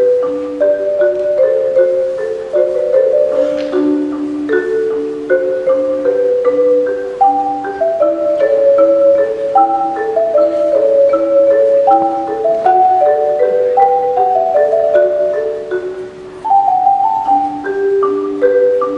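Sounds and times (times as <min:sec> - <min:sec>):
marimba music: 0:00.0 - 0:18.9.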